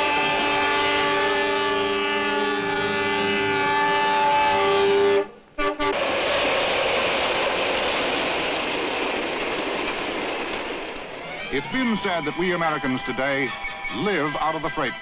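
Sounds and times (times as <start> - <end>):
freight train rushing past: 0.0 - 15.0.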